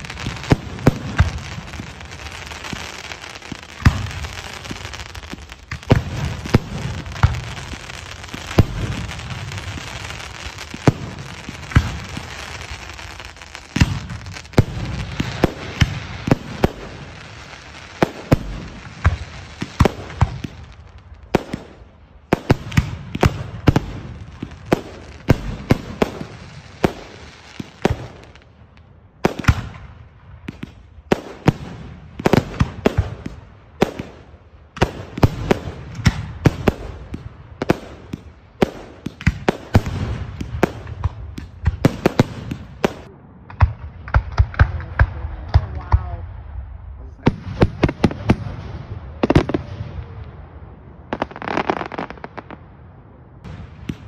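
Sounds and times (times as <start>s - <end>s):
fireworks bangs: 0.0s - 46.2s, 47.2s - 54.0s.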